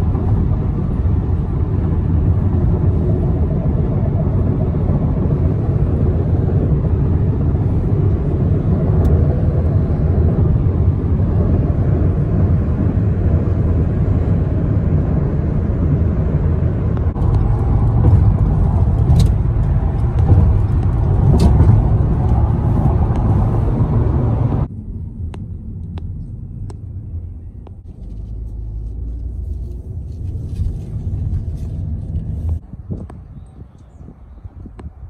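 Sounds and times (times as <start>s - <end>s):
car road noise at speed: 0.0s - 35.0s
low in-car drone: 0.0s - 35.0s.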